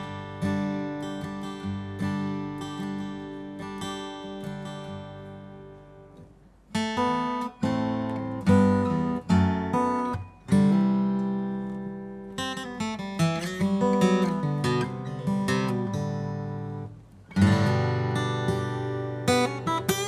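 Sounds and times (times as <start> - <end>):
acoustic guitar chords strummed: 0.0 - 20.0
acoustic guitar picked notes: 0.0 - 20.0.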